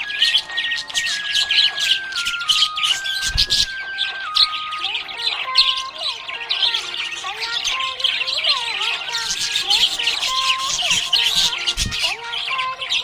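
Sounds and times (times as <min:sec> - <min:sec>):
budgerigars chirping and chattering: 0:00.0 - 0:13.0.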